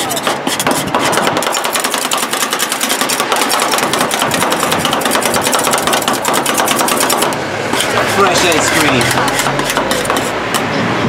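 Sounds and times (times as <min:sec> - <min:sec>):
metal spatulas clacking on steel plate: 0:00.0 - 0:10.7.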